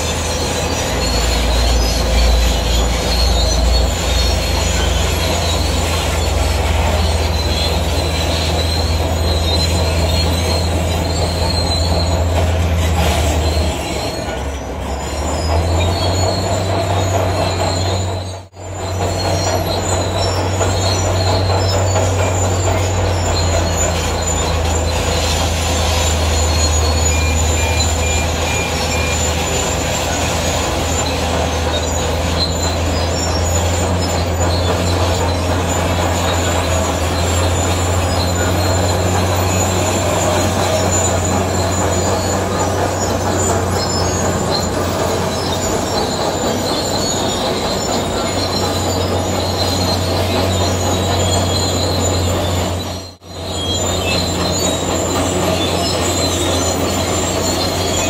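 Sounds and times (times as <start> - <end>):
bulldozer diesel engine droning: 0.0 - 58.0
steel tracks squealing and grinding: 0.0 - 58.0.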